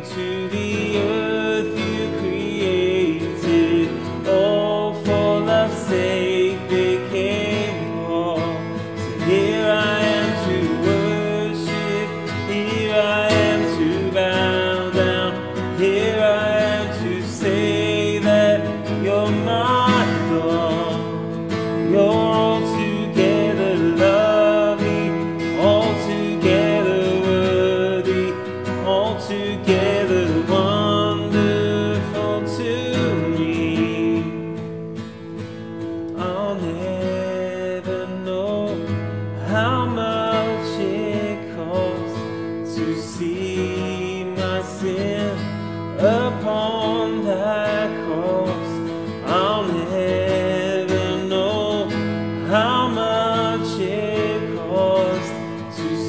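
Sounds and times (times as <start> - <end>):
person singing worship song: 0.0 - 34.8, 36.1 - 56.0
strummed acoustic guitar: 0.0 - 56.0.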